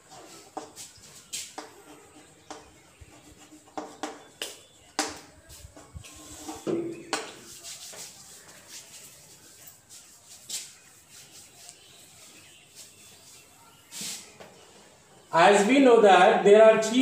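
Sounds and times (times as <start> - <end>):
chalk tapping and scraping: 0.0 - 14.6.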